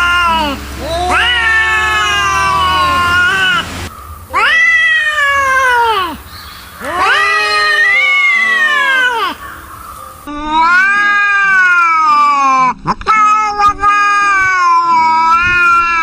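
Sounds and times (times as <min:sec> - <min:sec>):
angry cat yowling: 0:00.0 - 0:03.7, 0:04.3 - 0:06.2, 0:06.8 - 0:09.6, 0:10.5 - 0:16.0.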